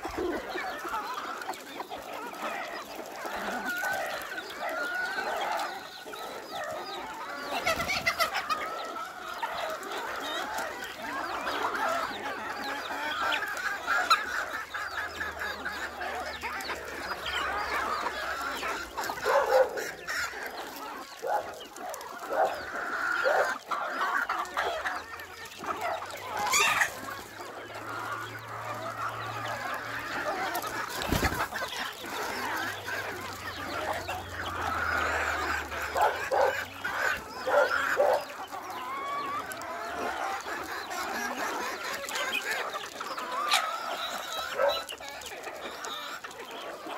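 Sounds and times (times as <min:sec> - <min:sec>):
hens and roosters clucking: 0:00.0 - 0:46.9.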